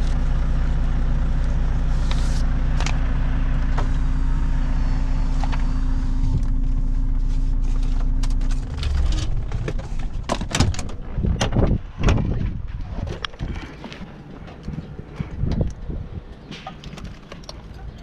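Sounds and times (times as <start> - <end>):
diesel engine idling: 0.0 - 18.0
engine shutting off shudder: 0.0 - 18.0.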